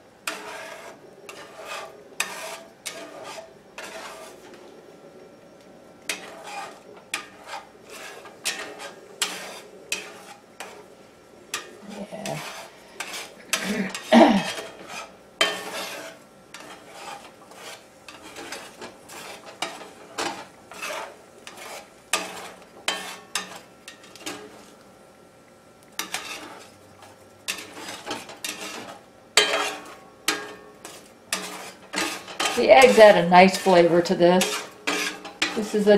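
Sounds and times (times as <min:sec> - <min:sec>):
metal spatula scraping a skillet: 0:00.2 - 0:04.6, 0:06.1 - 0:24.8, 0:25.9 - 0:35.9.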